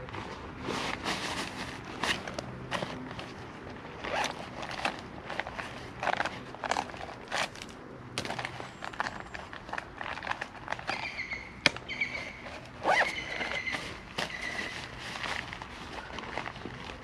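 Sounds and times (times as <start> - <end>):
gear rustling in backpack: 0.0 - 17.0.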